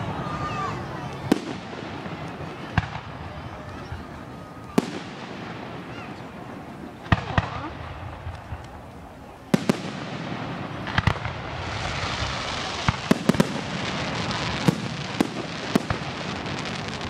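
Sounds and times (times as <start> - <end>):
crackling hiss of fireworks: 0.0 - 17.0
fireworks bangs: 0.0 - 17.0.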